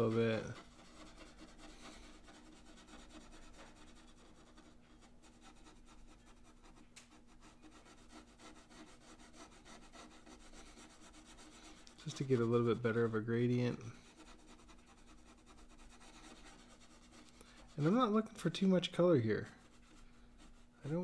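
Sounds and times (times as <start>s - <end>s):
pencil scratching on paper: 0.0s - 21.0s.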